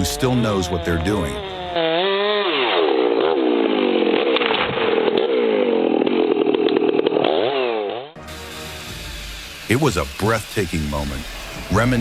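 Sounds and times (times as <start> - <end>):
chainsaw cutting at high revs: 0.0 - 12.0.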